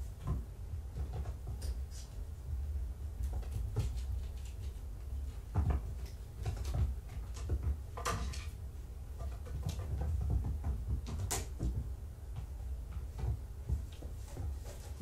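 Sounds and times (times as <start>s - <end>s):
kittens scrambling on cat tree: 0.0s - 15.0s.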